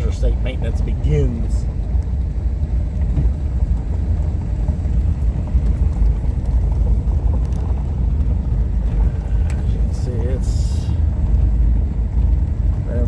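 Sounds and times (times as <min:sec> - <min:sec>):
car driving on gravel road: 0:00.0 - 0:13.0.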